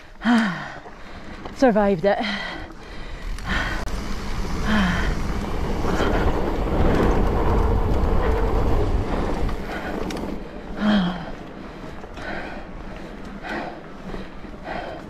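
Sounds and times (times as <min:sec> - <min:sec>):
rider breathing: 0:00.0 - 0:15.0
tyres rumbling over dirt: 0:00.0 - 0:15.0
wind buffeting microphone: 0:00.8 - 0:15.0.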